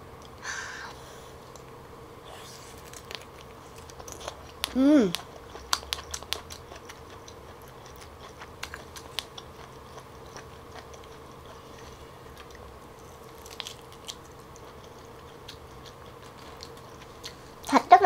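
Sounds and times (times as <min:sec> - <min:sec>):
faint steady hum: 0:00.0 - 0:18.0
mouth chewing meat: 0:02.4 - 0:17.8.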